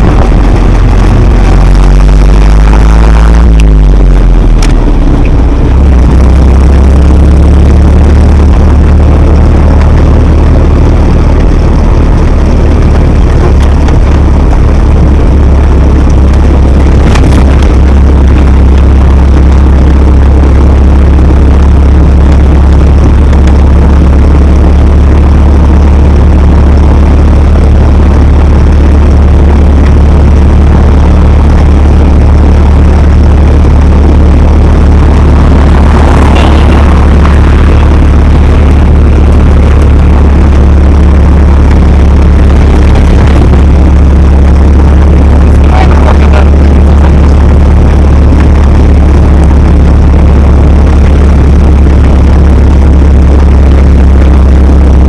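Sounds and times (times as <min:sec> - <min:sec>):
jeep engine droning: 0:00.0 - 0:55.0
wind and road noise: 0:00.0 - 0:55.0.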